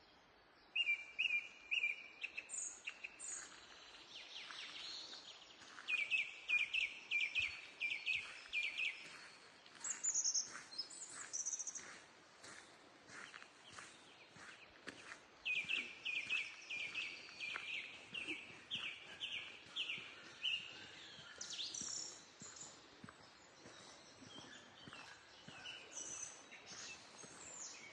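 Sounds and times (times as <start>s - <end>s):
bird chirps: 4.2s - 27.9s.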